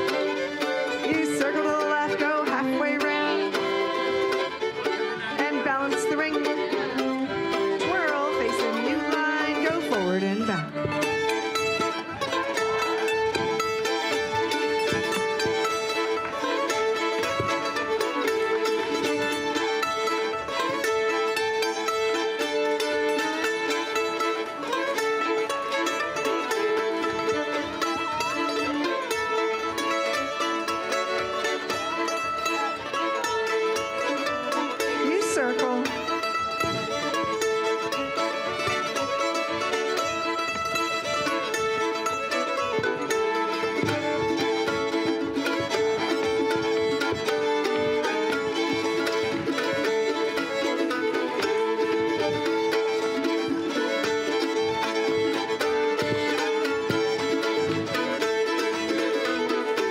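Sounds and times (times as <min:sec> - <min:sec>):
fiddles playing dance tune: 0:00.0 - 0:59.9
plucked-string accompaniment: 0:00.0 - 0:59.9.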